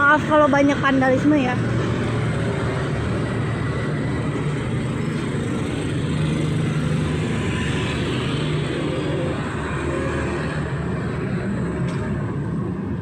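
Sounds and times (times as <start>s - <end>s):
passing vehicle engine drone: 0.0s - 13.0s.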